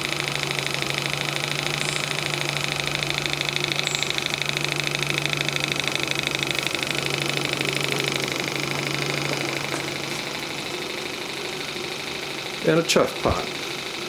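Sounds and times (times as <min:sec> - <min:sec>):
model steam engine exhaust beat: 0:00.0 - 0:14.0.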